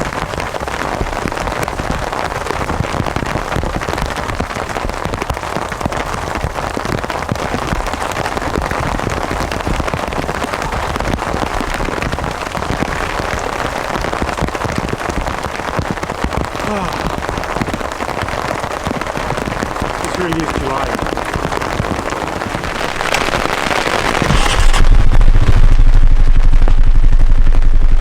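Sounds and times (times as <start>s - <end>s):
steady rain patter: 0.0s - 28.0s.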